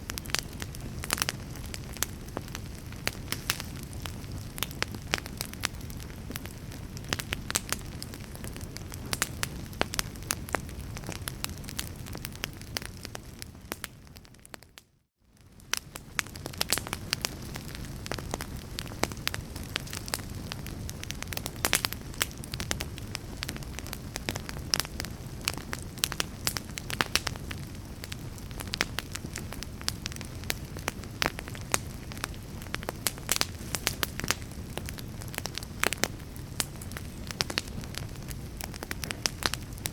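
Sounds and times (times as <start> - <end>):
fire crackling and popping: 0.0 - 39.9
low rumble of burning: 0.0 - 39.9.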